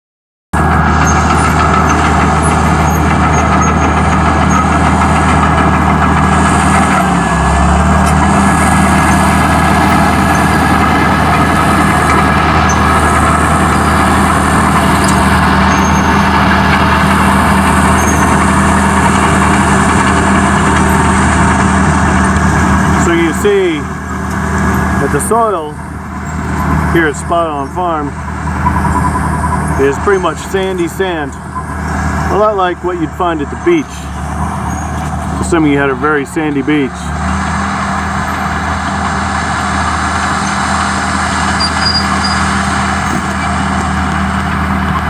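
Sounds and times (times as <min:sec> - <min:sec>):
bulldozer diesel engine running: 0:00.5 - 0:45.0.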